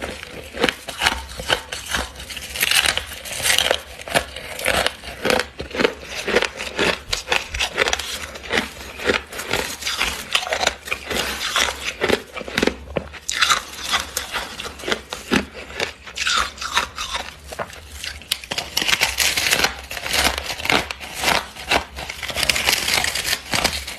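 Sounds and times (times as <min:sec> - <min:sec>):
frost being chewed: 0:00.0 - 0:23.9.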